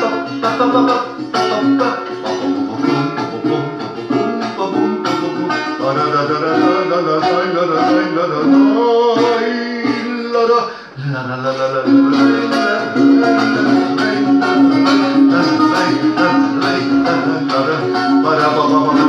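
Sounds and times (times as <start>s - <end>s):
man singing: 0.0s - 19.0s
nylon-string guitar strumming: 0.0s - 19.0s.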